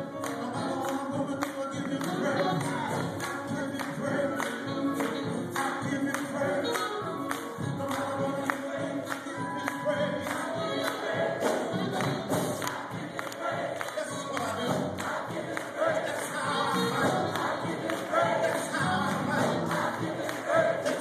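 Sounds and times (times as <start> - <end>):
quick percussive beat: 0.0 - 21.0
voices singing together: 0.0 - 21.0.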